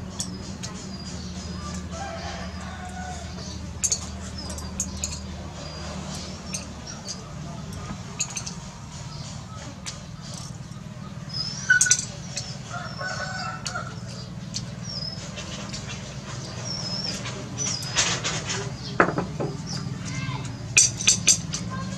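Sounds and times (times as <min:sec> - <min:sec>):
chickens clucking: 0:00.0 - 0:21.9
small birds chirping: 0:00.0 - 0:21.9
steady low hum: 0:00.0 - 0:21.9.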